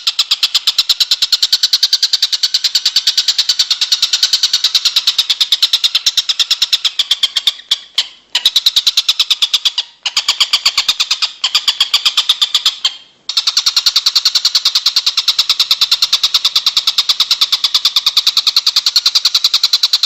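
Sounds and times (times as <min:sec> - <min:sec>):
songbird call fast high notes: 0:00.0 - 0:20.0.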